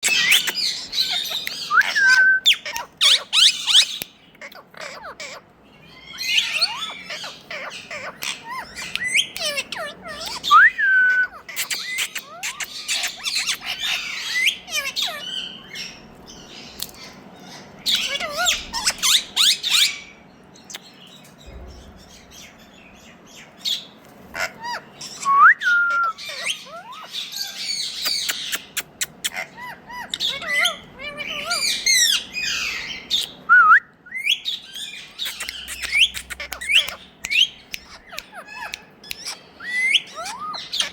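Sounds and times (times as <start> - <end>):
parakeet squawks and chirps: 0.0 - 33.5, 34.1 - 40.9.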